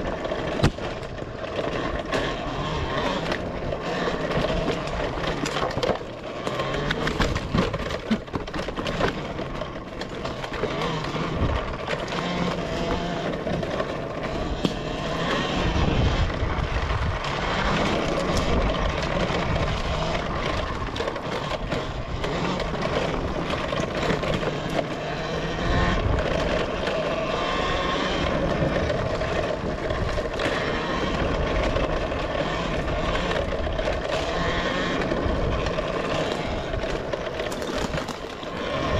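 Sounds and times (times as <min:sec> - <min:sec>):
bike rattling over bumps: 0:00.0 - 0:38.9
electric motor whine: 0:00.0 - 0:38.9.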